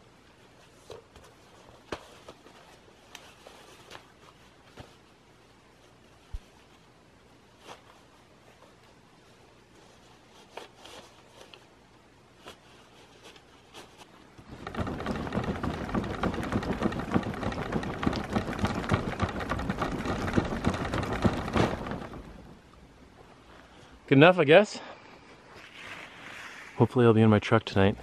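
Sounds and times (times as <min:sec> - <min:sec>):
faint clicks and rustles: 0:00.2 - 0:24.0.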